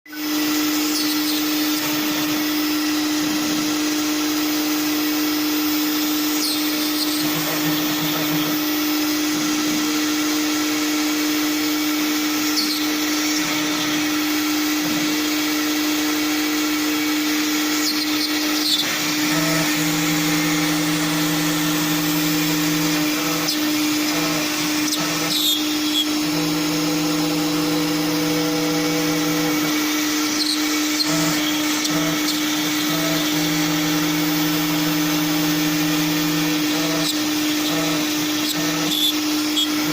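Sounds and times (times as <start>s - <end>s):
router spindle whine: 0.1s - 39.9s.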